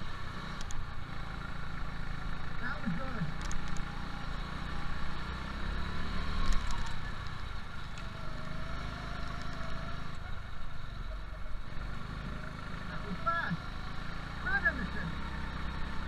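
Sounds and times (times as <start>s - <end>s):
go-kart engine running hard: 0.0s - 16.0s.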